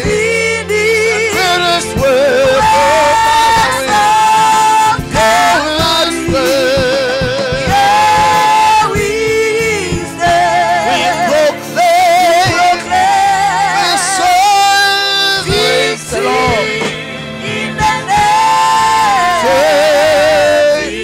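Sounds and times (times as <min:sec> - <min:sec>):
gospel singing with vibrato: 0:00.0 - 0:21.0.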